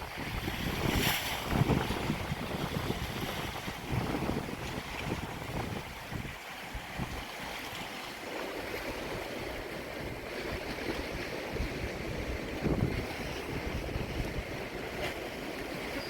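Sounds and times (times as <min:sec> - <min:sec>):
wind gusts rumbling on microphone: 0:00.0 - 0:07.5, 0:08.7 - 0:16.0
wind: 0:00.0 - 0:16.0.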